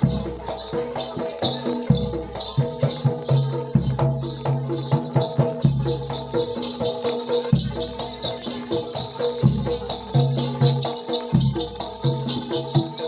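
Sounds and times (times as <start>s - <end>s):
pitched percussion notes: 0.0s - 13.0s
rattles or jingles: 0.0s - 13.0s.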